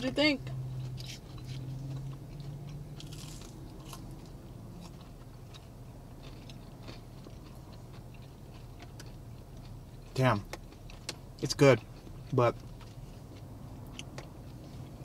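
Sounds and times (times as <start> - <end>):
chewing crunchy nuggets: 0.7 - 15.0.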